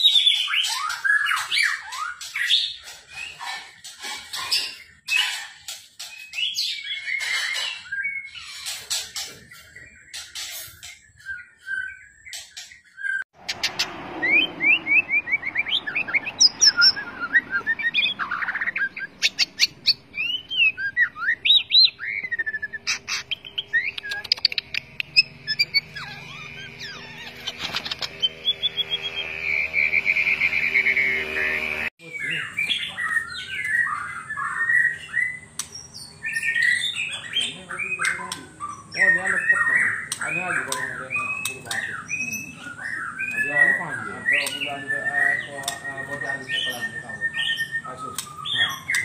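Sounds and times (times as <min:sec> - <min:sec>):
songbird whistling and trilling: 0:00.0 - 0:03.7, 0:06.0 - 0:49.0
another bird singing: 0:00.0 - 0:49.0.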